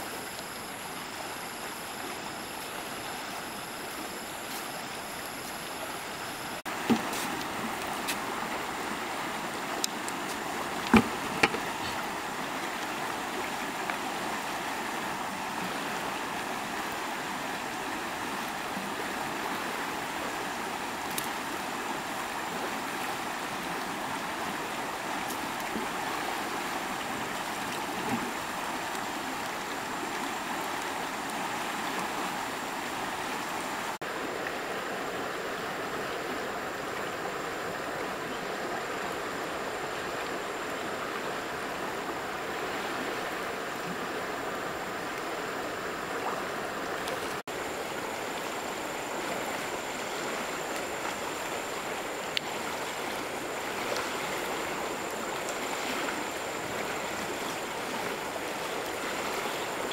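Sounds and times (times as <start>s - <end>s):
river water flowing over ripples: 0.0s - 59.9s.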